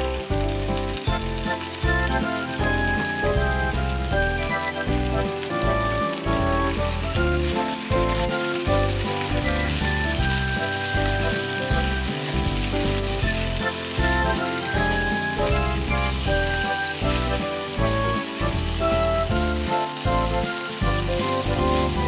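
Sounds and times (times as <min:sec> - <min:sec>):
background music with bass: 0:00.0 - 0:22.0
food sizzling in a frying pan: 0:00.0 - 0:22.0.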